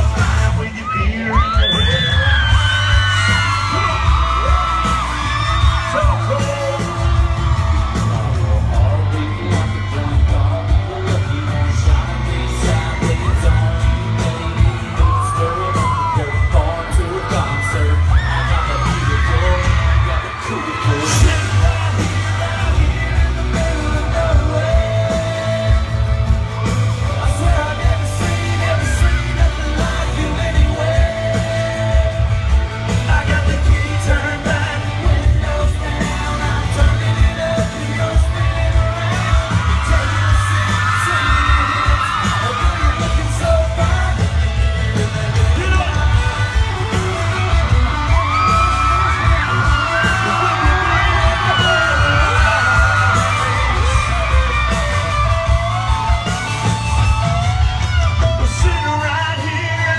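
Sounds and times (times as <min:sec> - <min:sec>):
band playing with heavy bass: 0:00.0 - 0:59.9
crowd yelling and whooping: 0:00.0 - 0:59.9
man singing: 0:00.0 - 0:59.9.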